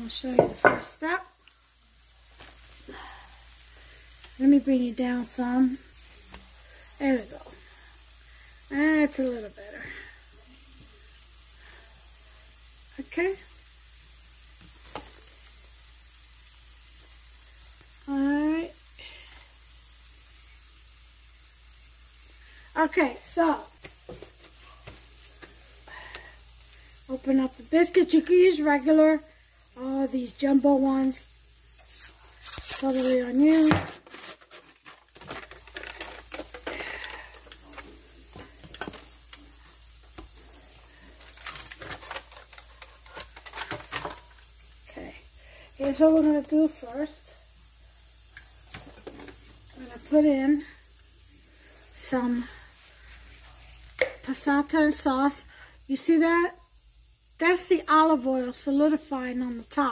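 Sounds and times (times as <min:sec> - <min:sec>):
mushrooms sizzling in a pan: 0:00.0 - 0:59.9.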